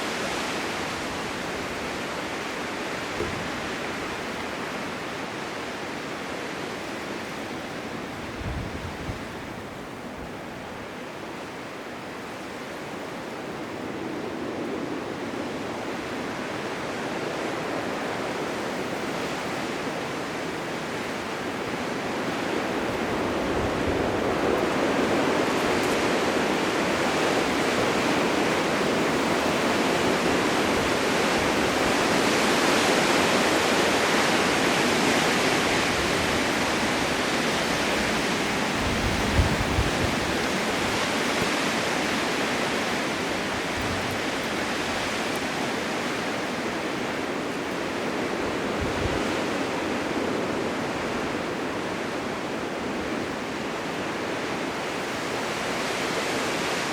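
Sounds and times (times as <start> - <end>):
blizzard wind rushing: 0.0 - 56.9
low wind buffets: 0.0 - 56.9.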